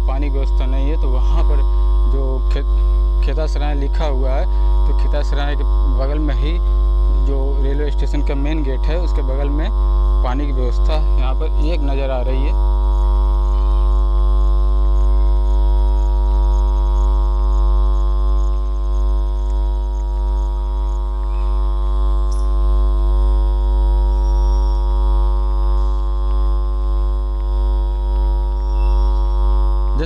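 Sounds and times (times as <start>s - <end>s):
electrical hum: 0.0s - 30.0s
heavy low rumble: 0.0s - 30.0s.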